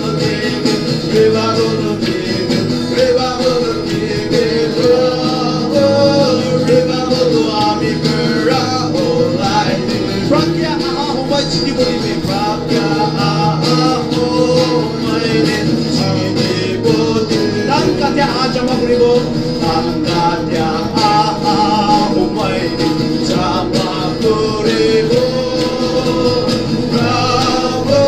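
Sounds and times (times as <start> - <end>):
electric guitar: 0.0 - 28.0
strummed acoustic guitar: 0.0 - 28.0
voices singing: 0.0 - 28.0.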